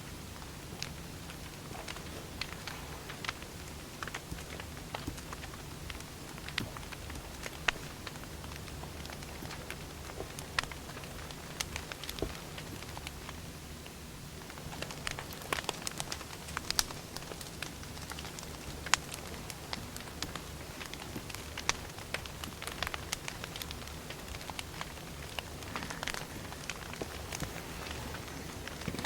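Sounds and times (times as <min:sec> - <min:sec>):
firewood crackling and popping: 0:00.0 - 0:29.0.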